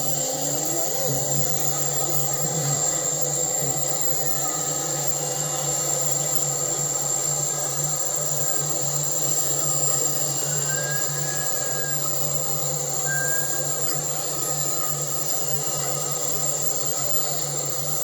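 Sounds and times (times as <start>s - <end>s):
high whine: 0.0s - 17.7s
mechanical drone: 0.0s - 18.0s.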